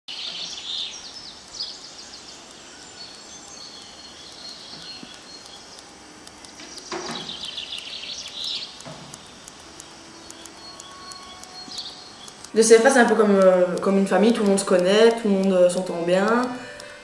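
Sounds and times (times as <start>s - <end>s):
outdoor background hiss: 0.1s - 17.0s
songbirds chirping and singing: 0.1s - 17.0s.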